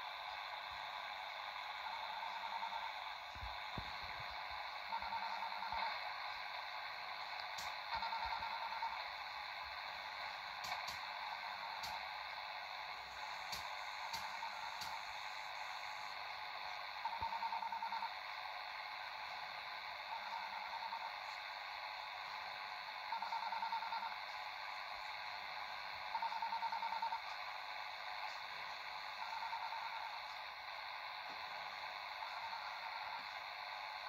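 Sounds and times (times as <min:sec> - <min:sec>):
pulsing radio tone: 0:00.0 - 0:24.4, 0:25.2 - 0:28.0, 0:28.6 - 0:34.0
radio static hiss: 0:00.0 - 0:34.0.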